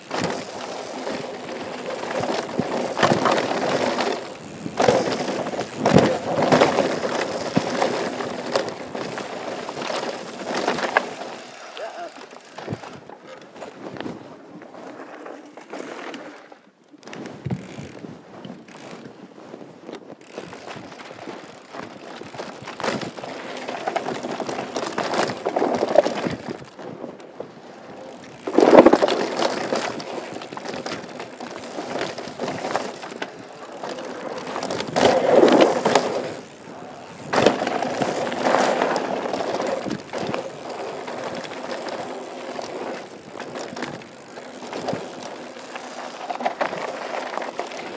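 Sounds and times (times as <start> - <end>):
tyres rumbling over rocks: 0.0 - 13.2, 20.2 - 47.9
bike chain and frame rattling: 0.0 - 14.2, 17.0 - 47.9
bike jolts: 0.0 - 47.9.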